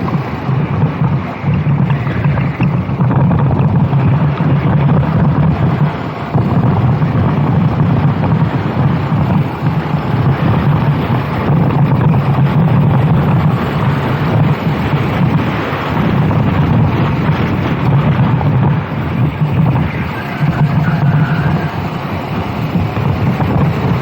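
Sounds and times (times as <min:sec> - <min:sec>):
kart engine running hard: 0:00.0 - 0:24.0
wind buffeting the microphone: 0:00.0 - 0:24.0.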